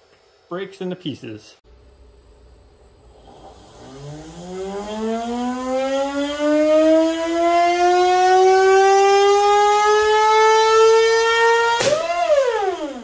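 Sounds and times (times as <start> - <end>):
motor whine rising in pitch: 1.7 - 13.0.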